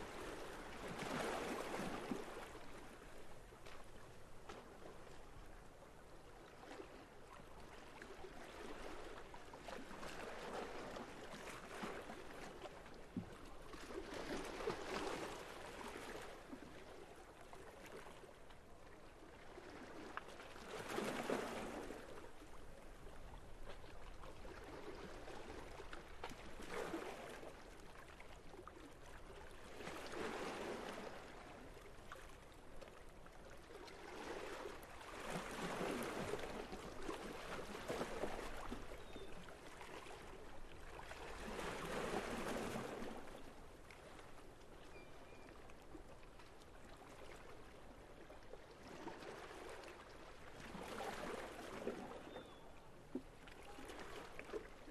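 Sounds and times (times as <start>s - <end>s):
small waves lapping: 0.0s - 54.9s.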